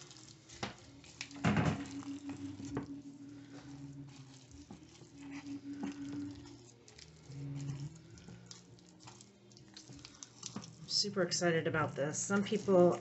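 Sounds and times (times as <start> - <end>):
spatula stirring thick batter: 0.0 - 13.0.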